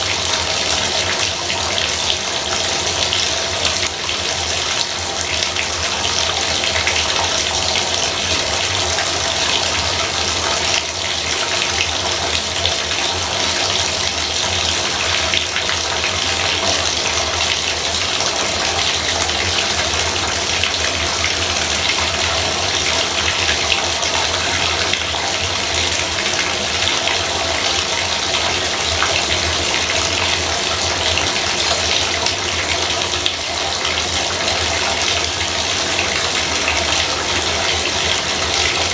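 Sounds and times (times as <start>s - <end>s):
faucet water pouring into tub: 0.0s - 38.9s.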